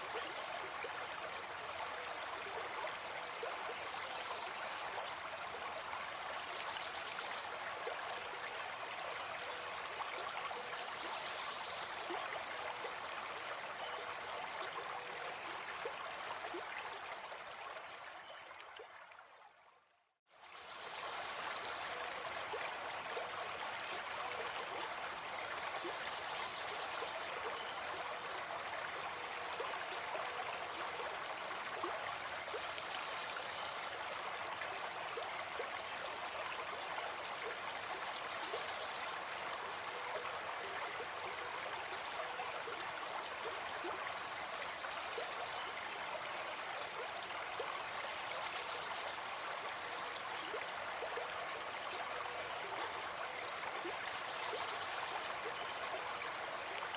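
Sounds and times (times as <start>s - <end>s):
stream flowing and gurgling: 0.0s - 56.9s.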